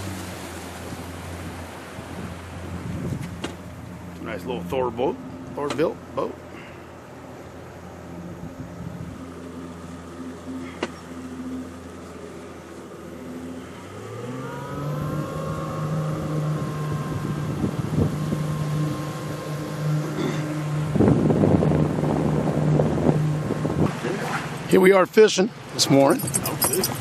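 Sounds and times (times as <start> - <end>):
motorboat engine running: 0.0 - 27.0.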